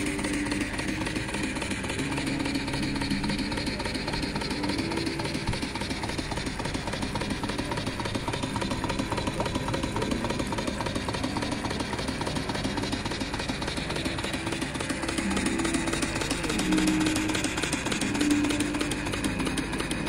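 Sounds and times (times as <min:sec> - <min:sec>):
model steam engine running fast: 0:00.0 - 0:20.0.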